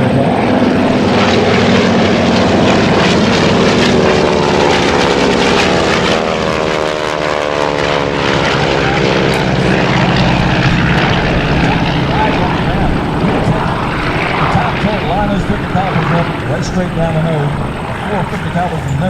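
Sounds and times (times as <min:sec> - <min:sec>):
propeller plane flying past: 0:00.0 - 0:19.0.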